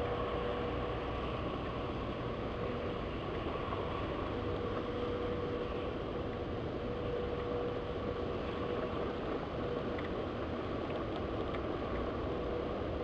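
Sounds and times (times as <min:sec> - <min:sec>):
faint steady hum: 0:00.0 - 0:13.0
steady rain: 0:00.0 - 0:13.0.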